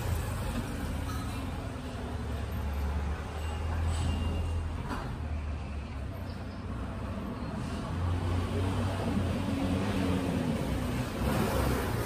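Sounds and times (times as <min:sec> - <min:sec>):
rumble of passing vehicles: 0:00.0 - 0:12.0.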